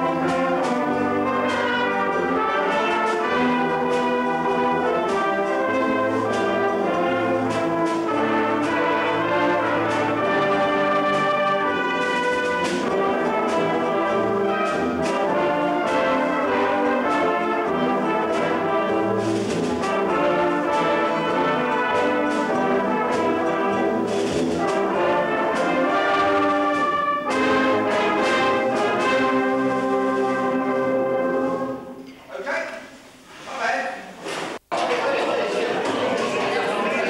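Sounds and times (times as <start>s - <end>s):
brass band with flutes playing: 0.0s - 32.0s.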